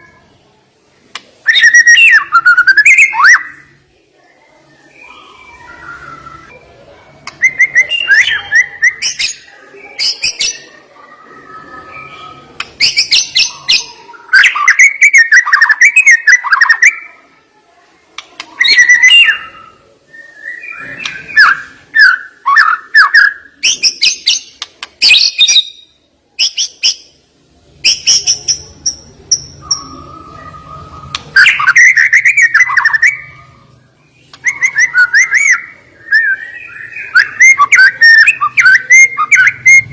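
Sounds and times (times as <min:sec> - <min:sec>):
songbird singing: 0:01.1 - 0:03.8, 0:04.4 - 0:17.2, 0:18.2 - 0:27.2, 0:27.8 - 0:39.9.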